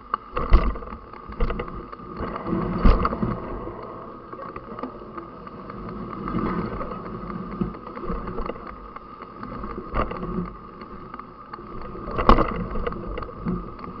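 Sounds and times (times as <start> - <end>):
bike rattling clicks: 0.0 - 14.0
wind and tyre rolling noise: 0.0 - 14.0.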